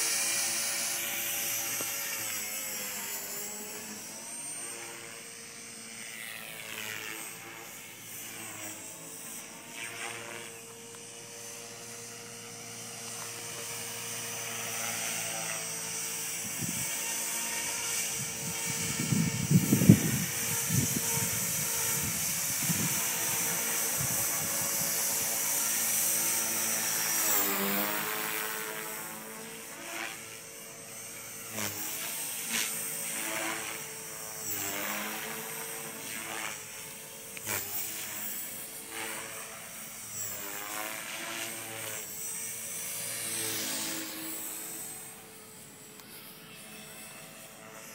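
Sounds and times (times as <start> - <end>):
model helicopter rotor whine: 0.0 - 47.9.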